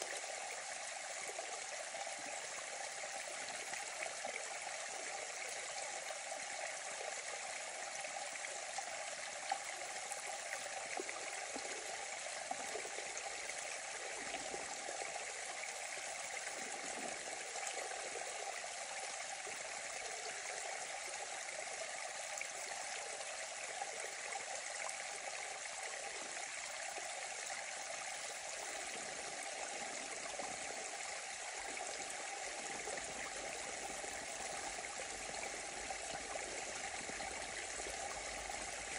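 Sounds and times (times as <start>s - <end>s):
stream running over twigs: 0.0s - 38.9s.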